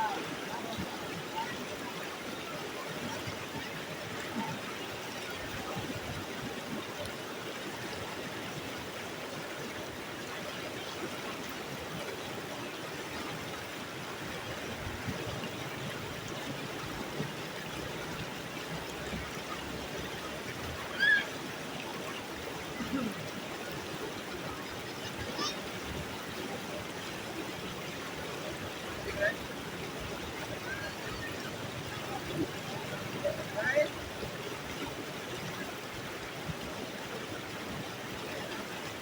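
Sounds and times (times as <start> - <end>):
stream flowing over rocks: 0.0 - 39.0.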